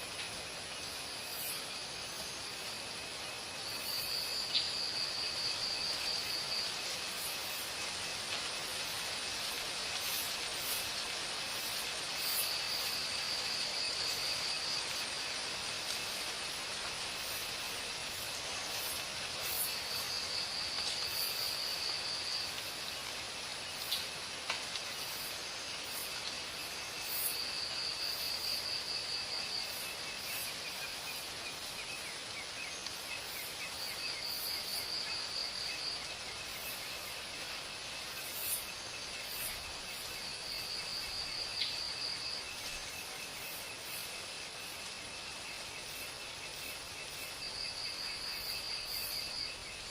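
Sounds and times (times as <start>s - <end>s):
insect hiss and drone: 0.0s - 49.9s.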